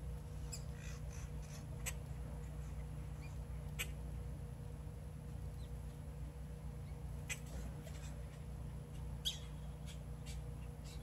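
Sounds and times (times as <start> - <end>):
thin steady hum: 0.0 - 11.0.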